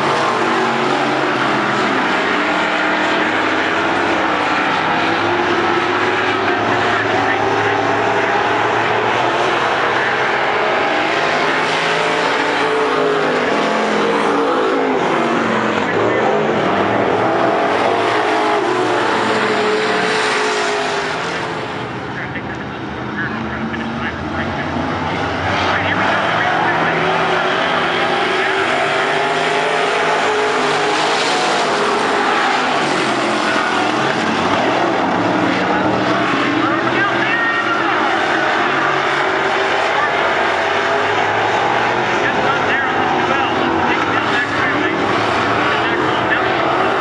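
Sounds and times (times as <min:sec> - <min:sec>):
race car engines: 0:00.0 - 0:47.0.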